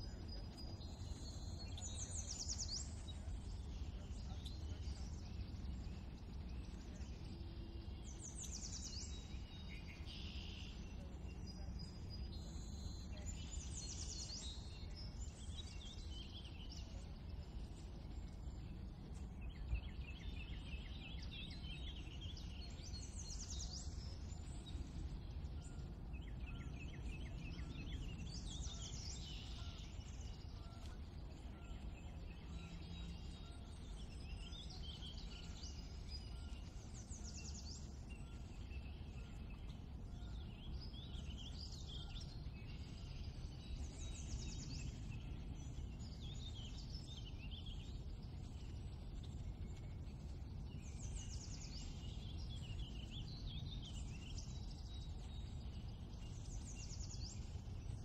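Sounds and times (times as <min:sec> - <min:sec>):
birds singing: 0:00.0 - 0:58.0
low background rumble: 0:00.0 - 0:58.0.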